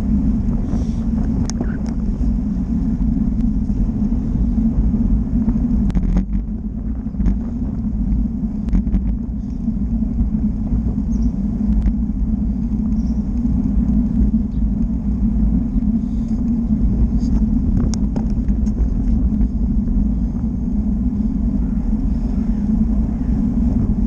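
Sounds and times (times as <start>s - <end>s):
vehicle rumbling along road: 0.0s - 24.0s.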